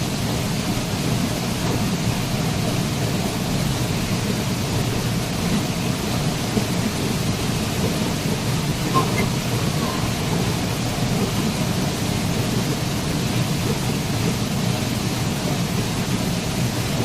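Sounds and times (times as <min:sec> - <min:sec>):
waterfall rushing: 0:02.0 - 0:17.0.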